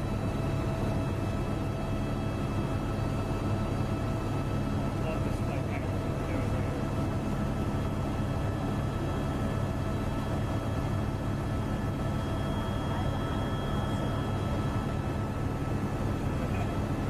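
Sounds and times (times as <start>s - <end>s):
aircraft engine drone: 0.0s - 17.0s
faint steady whining tones: 0.0s - 17.0s.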